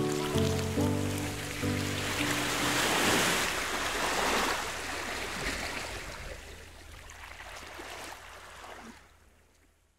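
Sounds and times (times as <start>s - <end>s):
sea water washing: 0.0s - 9.0s.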